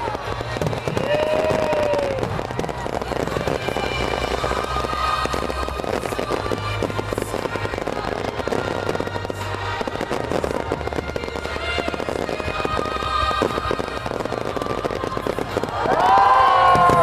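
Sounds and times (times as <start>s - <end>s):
firework bursts and crackling: 0.0s - 17.0s
music playing: 0.0s - 17.0s.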